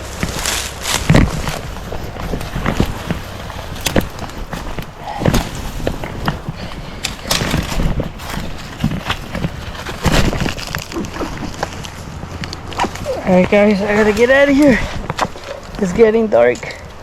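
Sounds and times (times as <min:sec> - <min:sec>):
footsteps on rocky ground: 0:00.0 - 0:17.0.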